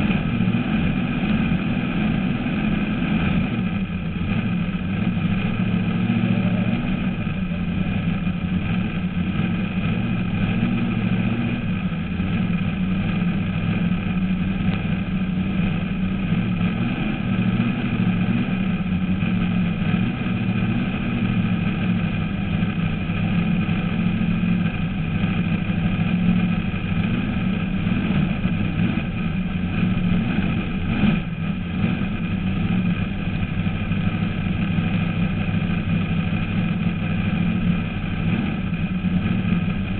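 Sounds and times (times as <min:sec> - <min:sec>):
drag car engine idling: 0:00.0 - 0:39.9.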